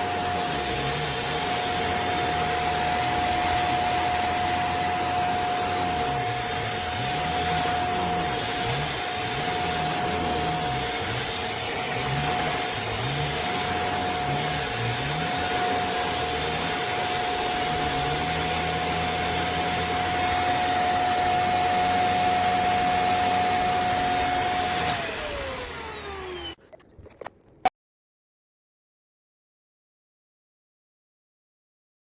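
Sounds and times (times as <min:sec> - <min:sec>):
vacuum cleaner motor whine: 0:00.0 - 0:26.6.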